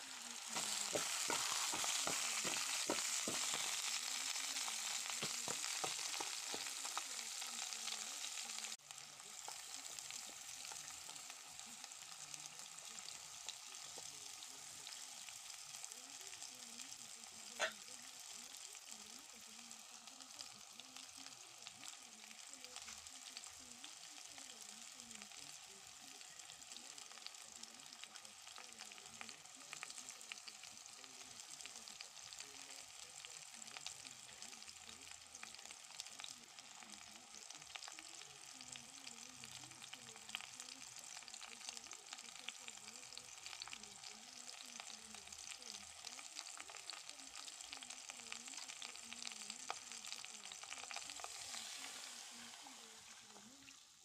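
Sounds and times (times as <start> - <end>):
potatoes sizzling in oil: 0.0 - 54.0.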